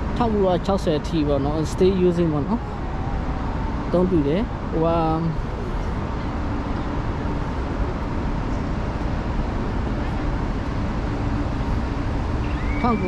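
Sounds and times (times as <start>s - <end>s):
moving vehicle rumble: 0.0s - 13.0s.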